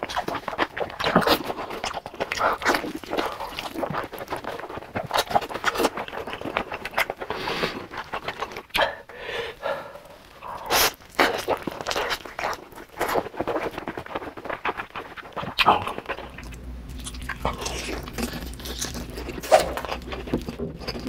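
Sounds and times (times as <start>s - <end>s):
wet chewing smacks: 0.0s - 9.0s, 9.9s - 21.0s.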